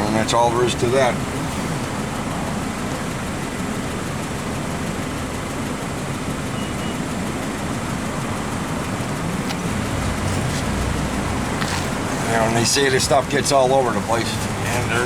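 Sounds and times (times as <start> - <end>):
vehicle traffic rumble: 0.0 - 15.0.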